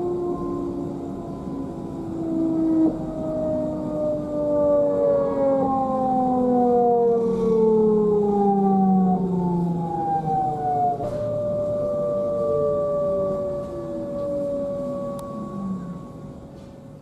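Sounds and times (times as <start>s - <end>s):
train traction converters whining: 0.0s - 17.0s.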